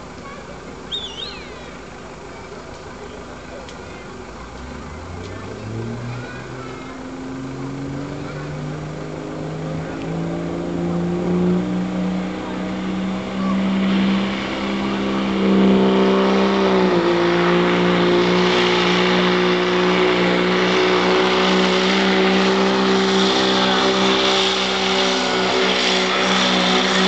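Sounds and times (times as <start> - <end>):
diesel engine at full throttle: 0.0 - 27.0.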